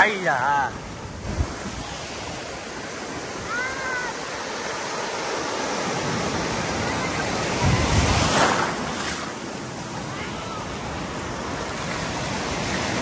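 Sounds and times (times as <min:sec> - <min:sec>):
surf washing in shallows: 0:00.0 - 0:13.0
wave breaking: 0:00.0 - 0:13.0.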